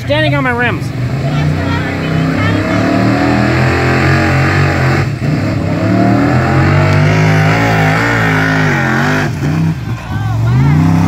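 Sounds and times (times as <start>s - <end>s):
pickup truck engine revving hard: 0.0s - 11.0s.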